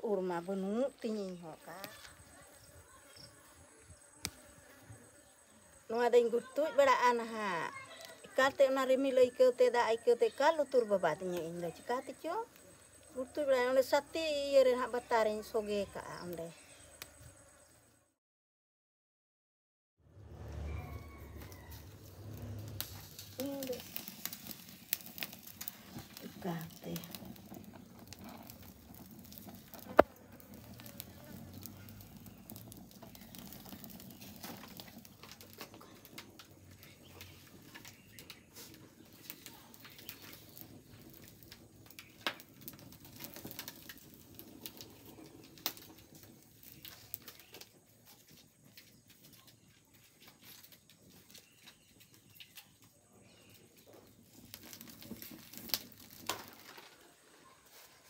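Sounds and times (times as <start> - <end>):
wood fire crackling and popping: 0.0 - 3.4, 4.0 - 17.2, 20.7 - 58.0.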